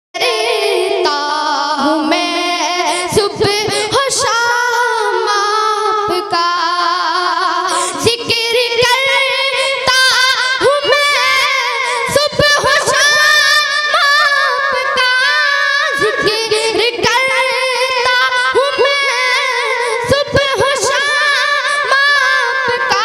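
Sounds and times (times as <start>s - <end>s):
boy singing into a microphone: 0.2s - 23.0s.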